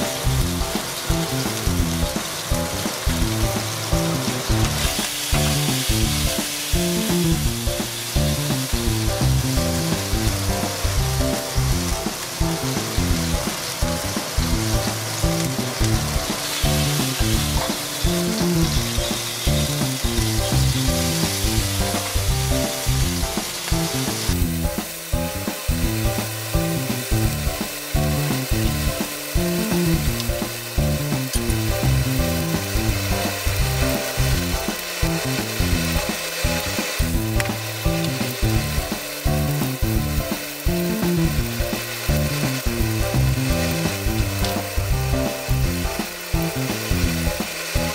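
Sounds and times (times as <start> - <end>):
dumplings sizzling in frying pan: 0.0 - 47.9.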